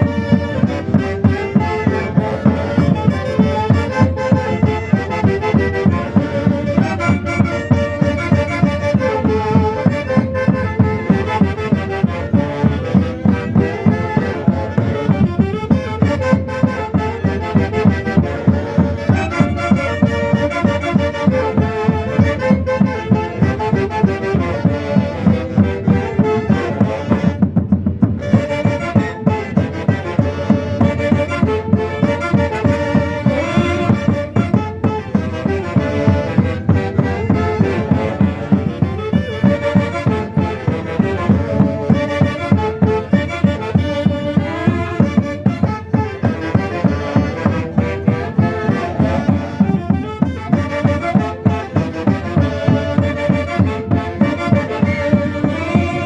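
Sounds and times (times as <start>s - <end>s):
steady drumbeat: 0.0s - 56.0s
wind instruments melody: 0.0s - 56.0s.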